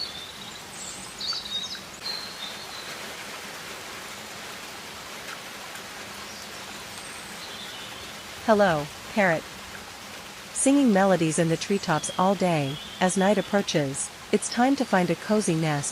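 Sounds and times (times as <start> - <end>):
rain-like hiss: 0.0 - 15.9.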